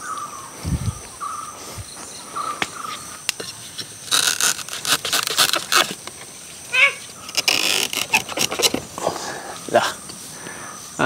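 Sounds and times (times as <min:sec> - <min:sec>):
high insect drone: 0:00.0 - 0:11.0
leaves rustling: 0:00.0 - 0:11.0.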